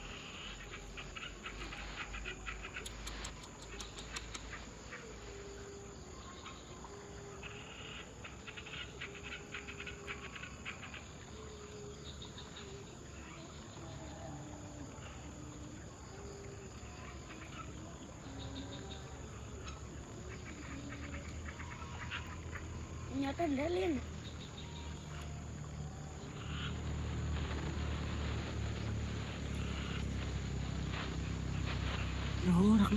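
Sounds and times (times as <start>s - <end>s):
clicking insect trills: 0.0s - 32.9s
crickets and insects chirping: 0.0s - 32.9s
low held insect call: 0.0s - 32.9s.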